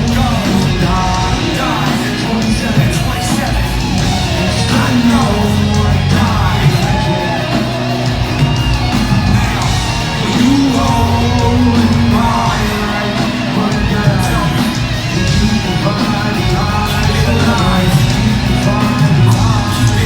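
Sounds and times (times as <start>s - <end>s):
live rock band music: 0.0s - 20.0s
people shouting: 0.0s - 20.0s
people singing: 0.0s - 20.0s.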